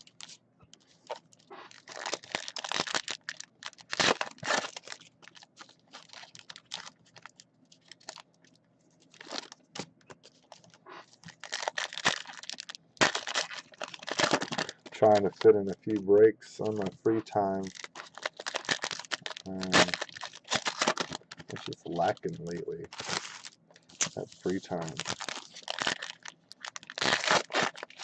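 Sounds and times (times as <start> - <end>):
plastic wrappers crinkling: 0.0 - 28.0.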